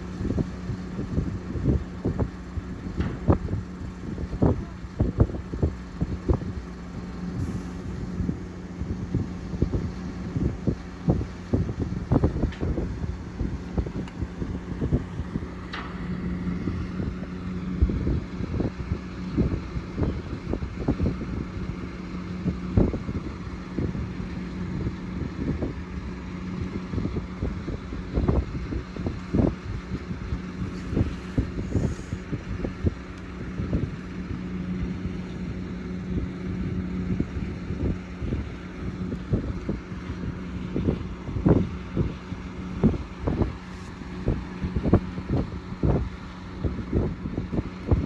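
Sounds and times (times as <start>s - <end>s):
engine running steadily: 0.0s - 48.0s
wind buffeting microphone: 0.0s - 48.0s.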